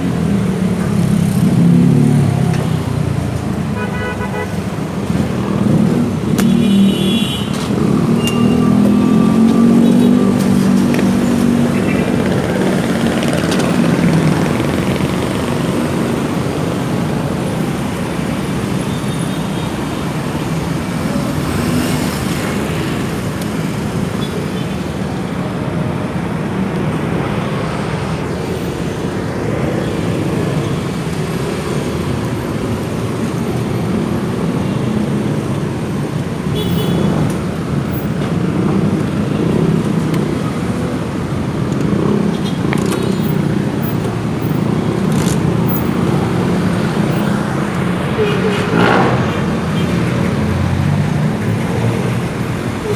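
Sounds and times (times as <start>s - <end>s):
traffic road noise: 0.0s - 52.9s.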